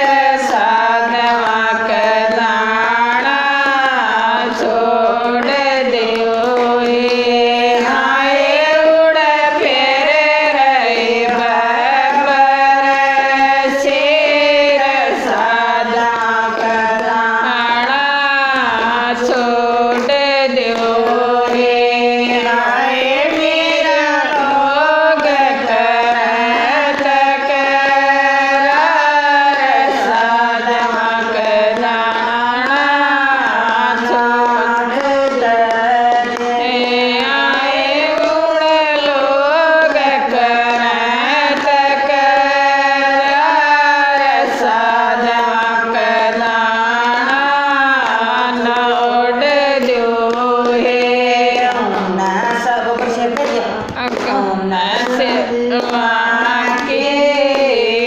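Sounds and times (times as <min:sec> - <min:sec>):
women singing devotional song: 0:00.0 - 0:58.0.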